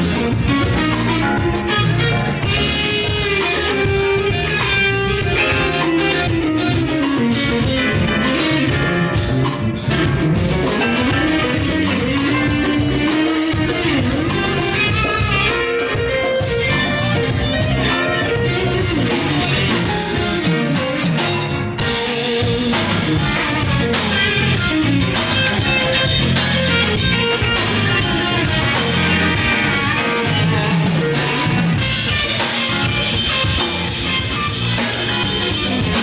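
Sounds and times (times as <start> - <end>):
drum kit: 0.0 - 36.0
electric guitar: 0.0 - 36.0
percussion: 0.0 - 36.0
pitch-bending lead melody: 0.0 - 36.0.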